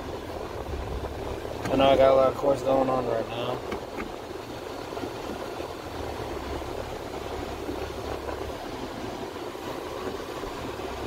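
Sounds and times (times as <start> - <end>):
car cabin rumble and hiss: 0.0 - 11.0.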